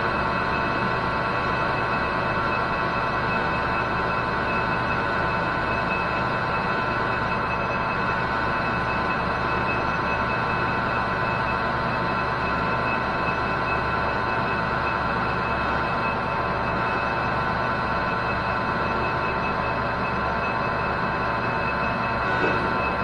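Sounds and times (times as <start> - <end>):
metal lathe whining and rumbling: 0.0 - 23.0.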